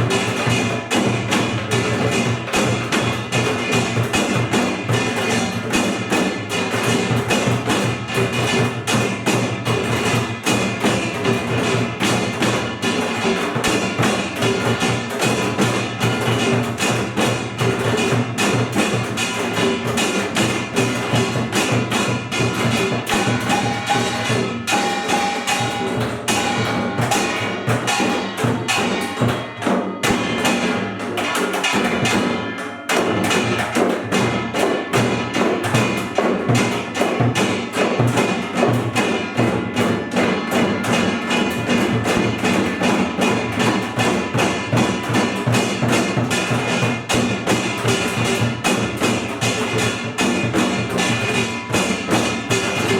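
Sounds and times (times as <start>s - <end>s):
barrel drums beating: 0.0s - 52.9s
hourglass drums beating: 0.0s - 52.9s.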